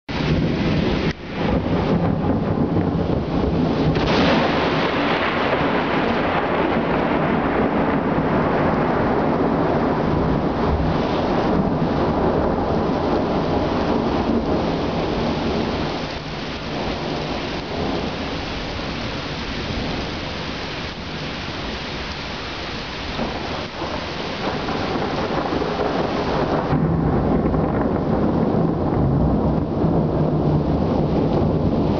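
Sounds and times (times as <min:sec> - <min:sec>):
heavy rain pouring: 0:00.1 - 0:31.9
thunder rumbling: 0:00.1 - 0:31.9.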